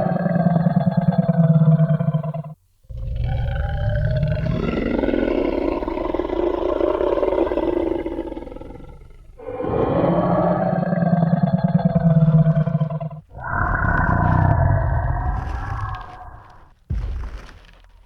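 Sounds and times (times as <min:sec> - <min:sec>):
deep growling dinosaur roar: 0:00.0 - 0:16.8.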